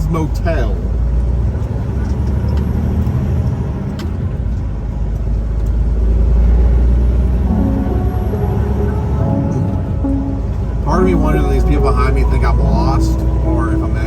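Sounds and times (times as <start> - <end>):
diesel engine drone: 0.0 - 14.0.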